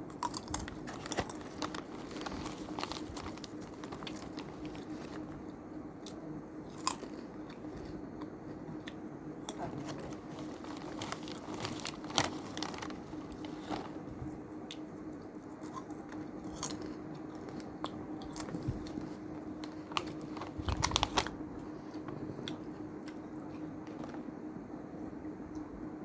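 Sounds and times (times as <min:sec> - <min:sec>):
person chewing crunchy snack: 0:00.0 - 0:14.0, 0:15.6 - 0:23.2
faint steady hum: 0:00.0 - 0:26.0.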